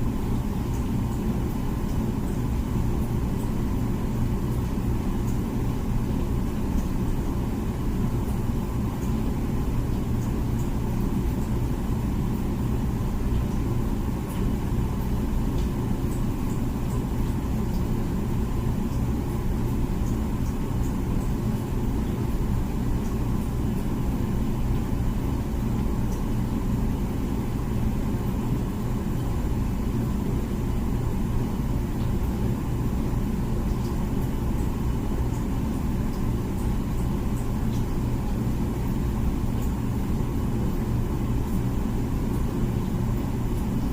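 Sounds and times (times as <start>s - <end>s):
dishwasher humming: 0.0s - 43.9s.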